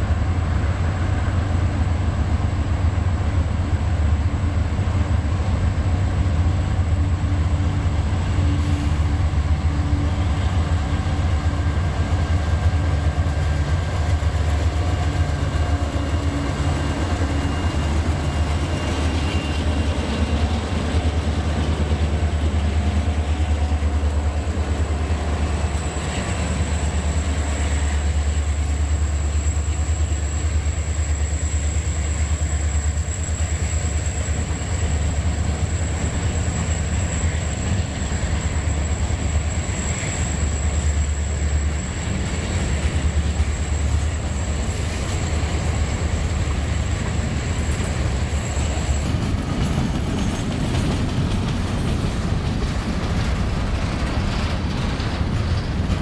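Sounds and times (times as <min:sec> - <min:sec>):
locomotive engine rumble: 0:00.0 - 0:56.0.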